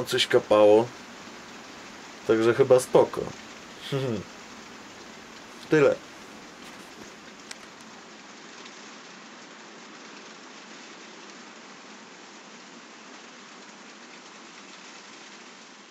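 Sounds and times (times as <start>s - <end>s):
rain on a roof: 0.0s - 15.9s.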